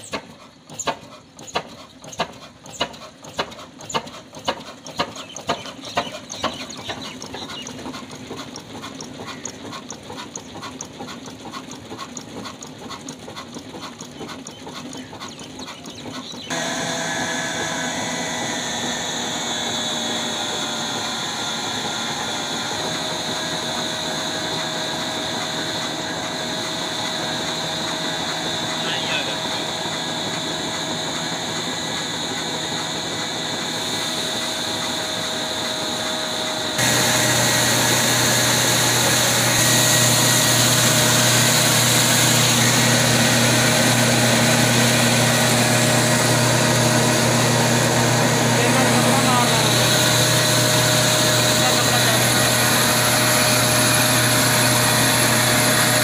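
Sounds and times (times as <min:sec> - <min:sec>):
diesel engine running: 0:00.0 - 0:56.0
flour mill whine: 0:00.0 - 0:56.0.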